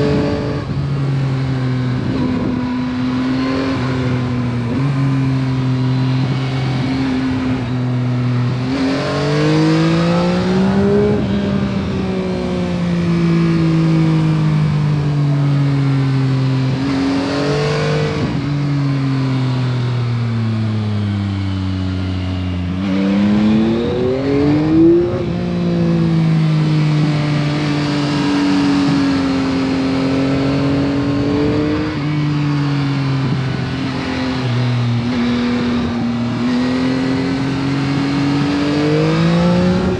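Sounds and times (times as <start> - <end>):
motorcycle engine accelerating: 0.0 - 39.9
road and wind noise: 0.0 - 39.9.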